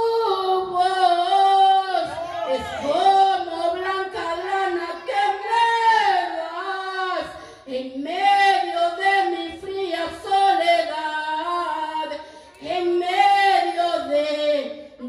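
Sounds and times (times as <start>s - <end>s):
woman singing into microphone: 0.0s - 15.0s.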